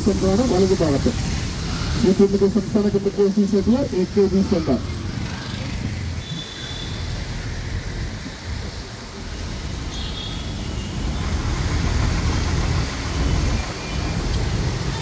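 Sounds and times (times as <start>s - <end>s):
bus engine rumble: 0.0s - 15.0s
passing traffic: 0.0s - 15.0s.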